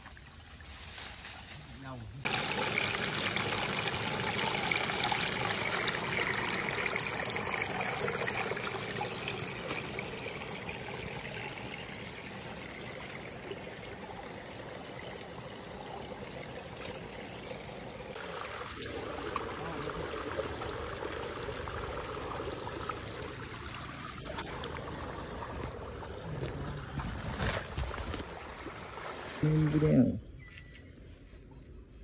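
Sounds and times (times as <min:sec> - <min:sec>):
stream water trickling over rocks: 0:00.0 - 0:30.2.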